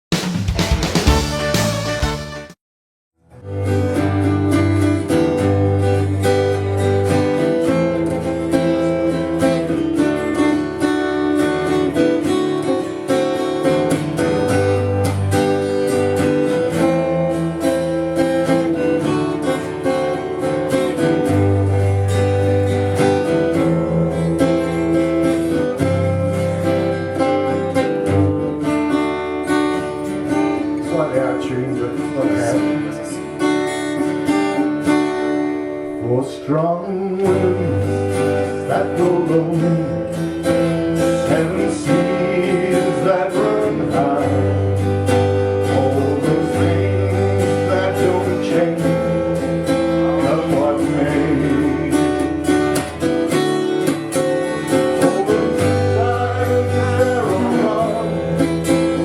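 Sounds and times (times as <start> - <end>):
acoustic guitar strumming: 0.1 - 2.6, 3.2 - 59.0.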